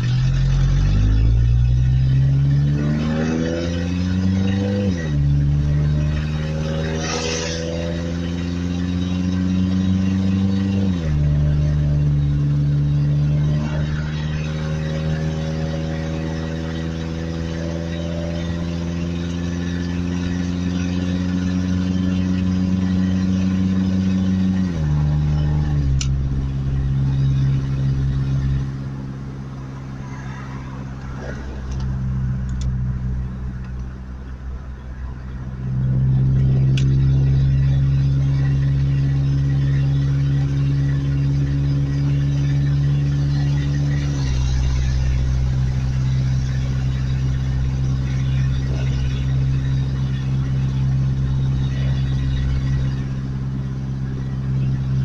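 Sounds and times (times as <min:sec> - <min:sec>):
truck engine from inside cab: 0:00.0 - 0:55.0.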